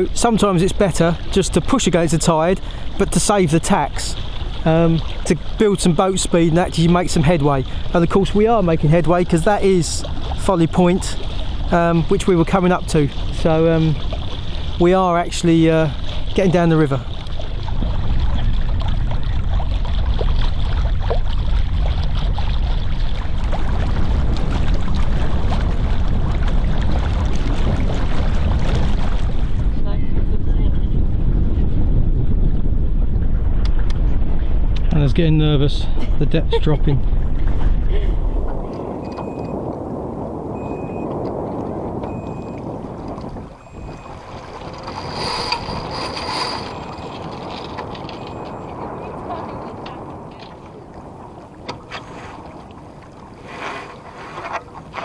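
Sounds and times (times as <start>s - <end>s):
water rushing along hull: 0.0s - 31.8s, 32.8s - 55.0s
wind buffeting microphone: 0.0s - 55.0s.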